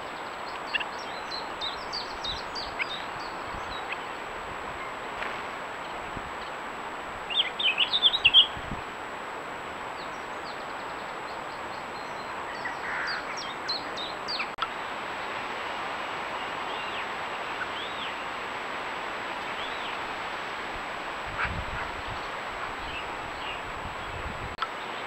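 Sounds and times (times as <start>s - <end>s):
songbirds chirping: 0.0s - 25.0s
steady hiss: 0.0s - 25.0s.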